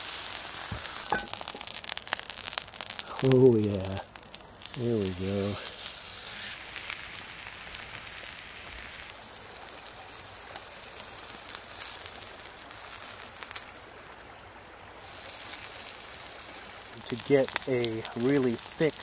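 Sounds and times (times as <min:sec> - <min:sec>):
steak sizzling on a griddle: 0:00.0 - 0:19.0.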